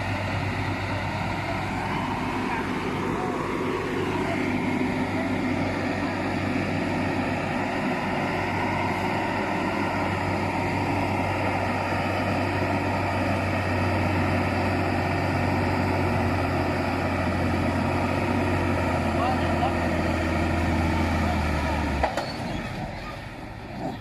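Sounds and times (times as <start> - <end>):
truck diesel engine drone: 0.0 - 24.0.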